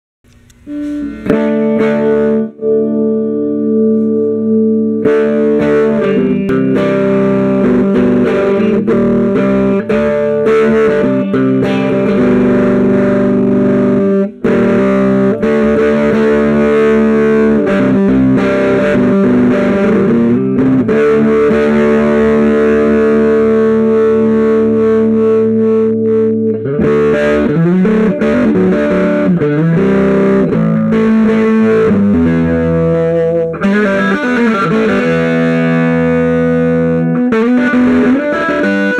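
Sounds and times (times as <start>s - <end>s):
electric guitar chords ringing: 0.3s - 38.9s.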